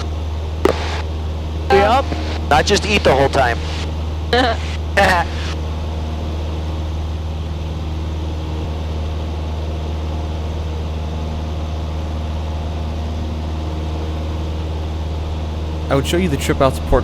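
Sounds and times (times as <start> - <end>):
airplane engine droning: 0.0 - 17.0.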